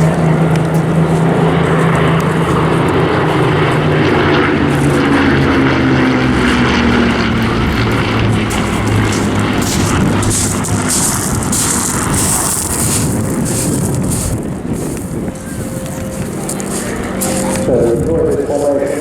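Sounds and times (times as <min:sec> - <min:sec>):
piston aircraft engines droning: 0:00.0 - 0:19.0.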